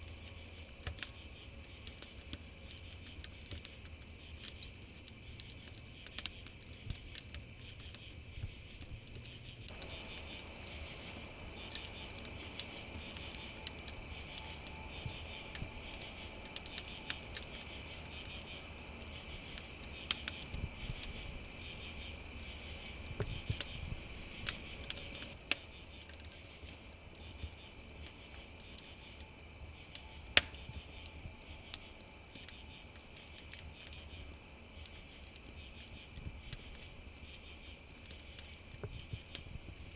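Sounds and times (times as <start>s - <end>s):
crickets chirping: 0.0s - 39.9s
wood fire crackling and popping: 0.0s - 39.9s.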